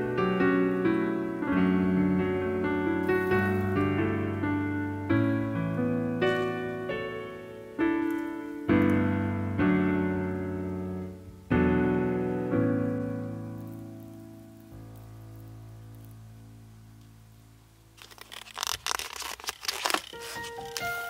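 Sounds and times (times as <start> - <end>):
slow piano chords: 0.0 - 18.5, 20.2 - 21.0.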